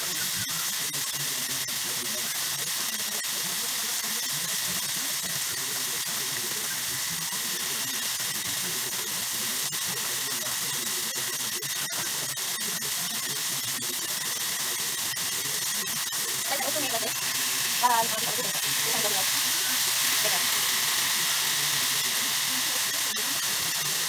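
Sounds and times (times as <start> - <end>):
chicken deep-frying in hot oil: 0.0 - 24.0.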